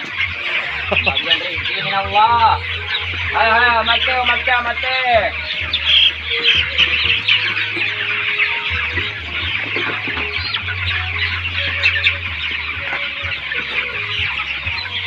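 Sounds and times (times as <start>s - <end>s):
flock of chickens calling: 0.0s - 15.0s.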